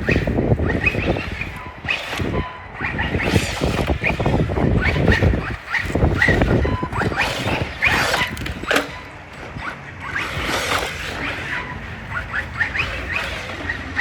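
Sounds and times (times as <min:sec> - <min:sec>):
electric motor whining: 0:00.0 - 0:14.0
rough rumble and knocks: 0:00.0 - 0:14.0.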